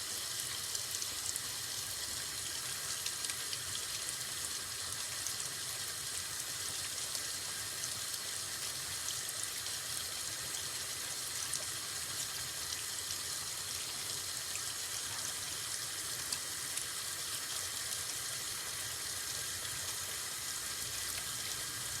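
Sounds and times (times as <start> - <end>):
steady hiss with fine crackle: 0.0 - 22.0.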